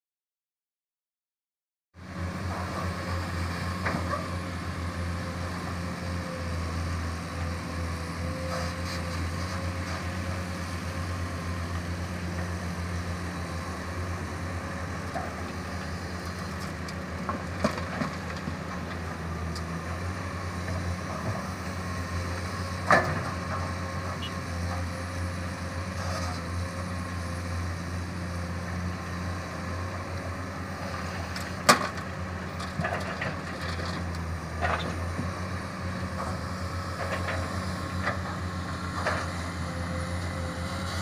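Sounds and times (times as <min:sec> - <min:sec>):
excavator diesel engine running: 0:02.0 - 0:41.0.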